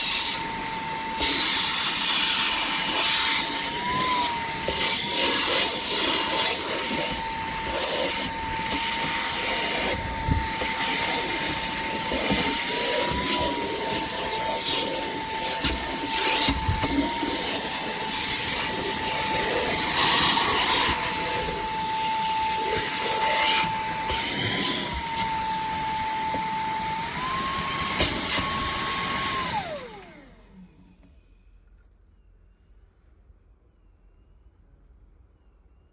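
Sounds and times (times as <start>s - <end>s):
handheld vacuum cleaner running: 0.0s - 31.1s.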